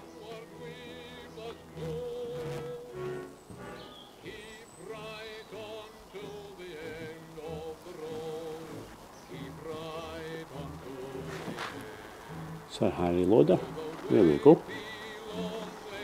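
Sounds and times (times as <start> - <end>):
low steady accompaniment: 0.0 - 16.0.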